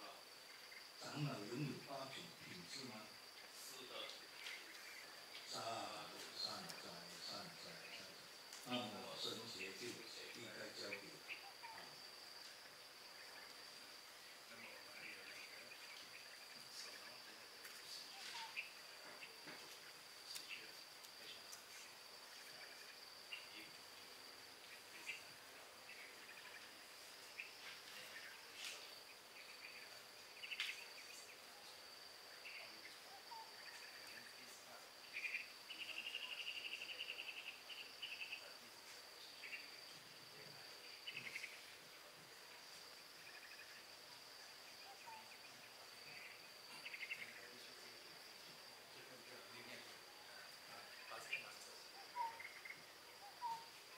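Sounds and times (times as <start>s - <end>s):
cricket chirps: 0.0s - 53.9s
insects droning: 0.0s - 53.9s.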